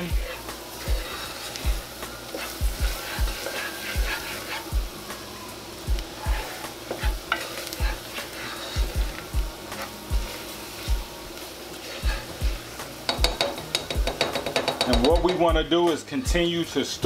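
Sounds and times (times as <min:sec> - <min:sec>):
background music with thumping beat: 0:00.0 - 0:16.7
roux sizzling in grease: 0:00.0 - 0:17.0.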